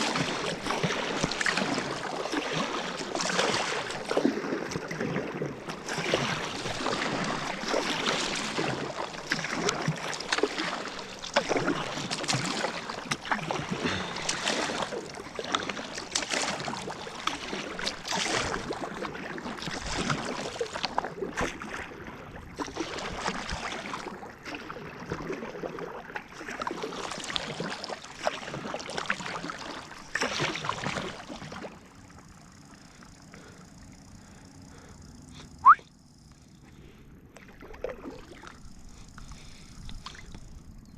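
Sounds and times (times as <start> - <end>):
paddle splashing in water: 0.0 - 33.5, 36.8 - 40.6.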